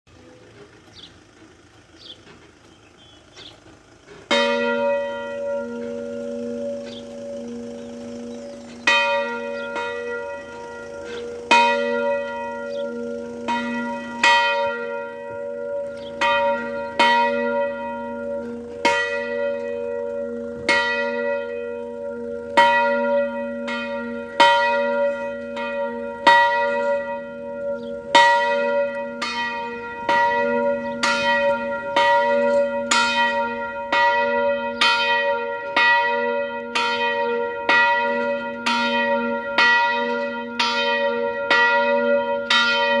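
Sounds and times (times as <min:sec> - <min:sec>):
church bell ringing: 0:04.1 - 0:43.0.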